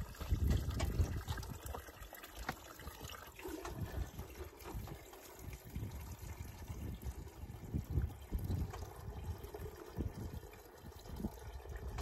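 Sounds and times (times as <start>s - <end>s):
water trickling into fountain: 0.0s - 12.0s.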